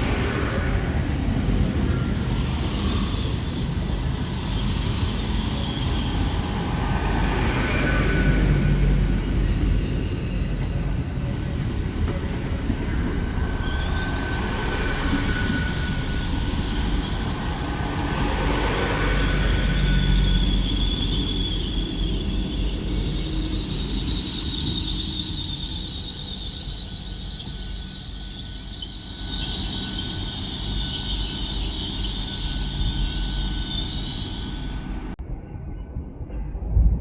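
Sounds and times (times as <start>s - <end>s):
train wheels rumbling on rail: 0.0s - 37.0s
high-pitched wheel squeal: 1.8s - 35.2s.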